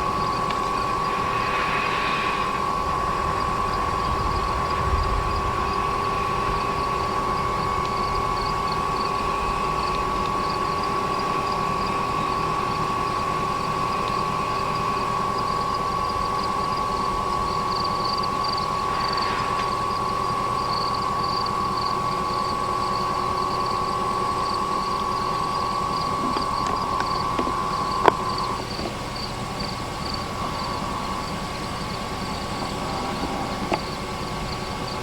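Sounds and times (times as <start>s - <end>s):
insects chirping: 0.0s - 35.0s
mechanical hum with high whine: 0.0s - 35.0s.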